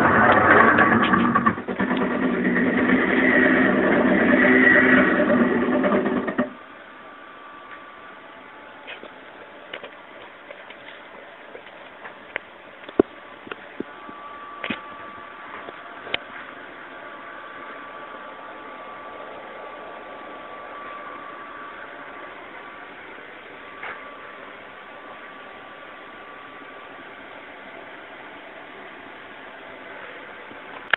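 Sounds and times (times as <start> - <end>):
machine hiss with high whine: 0.0 - 30.9.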